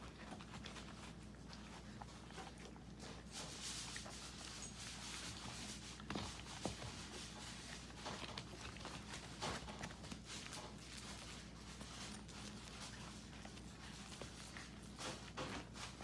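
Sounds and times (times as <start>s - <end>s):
puppies crunching dry kibble: 0.0s - 16.0s
small paws pattering: 0.0s - 16.0s.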